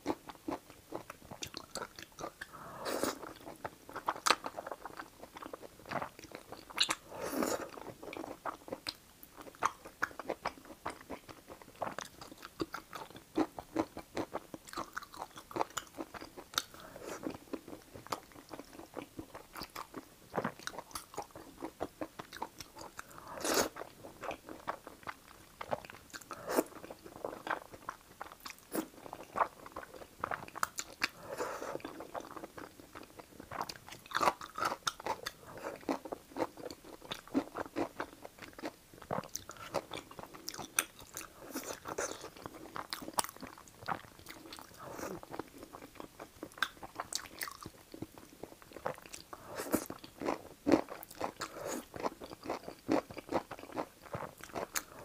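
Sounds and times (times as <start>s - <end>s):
wet chewing and mouth clicks: 0.0s - 7.0s, 7.6s - 55.0s.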